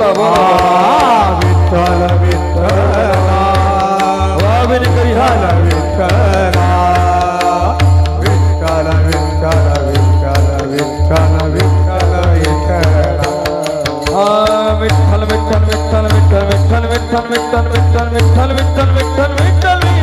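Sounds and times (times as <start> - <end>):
steady low drum beat: 0.0 - 20.0.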